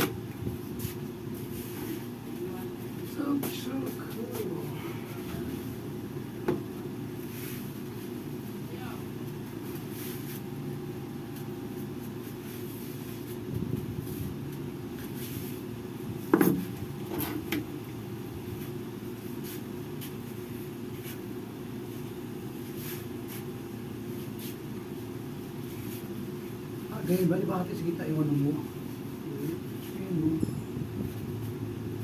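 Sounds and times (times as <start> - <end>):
window air conditioner humming: 0.0 - 32.0.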